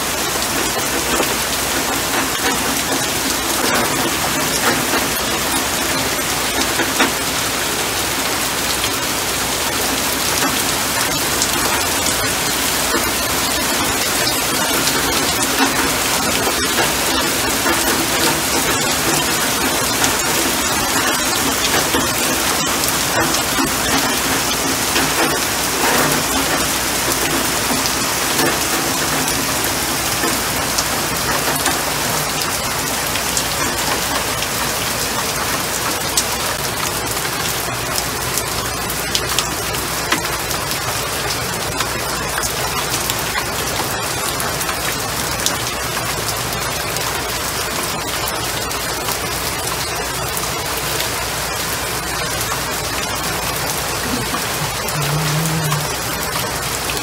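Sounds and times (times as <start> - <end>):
steady rain on leaves and pavement: 0.0 - 57.0.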